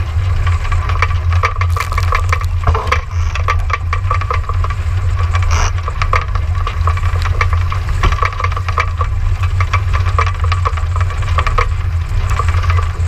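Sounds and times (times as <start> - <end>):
wind rumble on microphone: 0.0 - 13.0
water noise: 0.4 - 13.0
quick clicks and rattles: 0.6 - 13.0.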